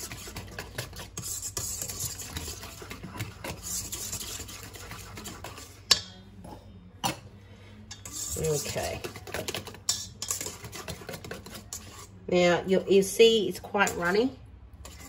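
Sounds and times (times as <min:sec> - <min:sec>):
whisk scraping metal bowl: 0:00.0 - 0:06.0, 0:07.9 - 0:15.0.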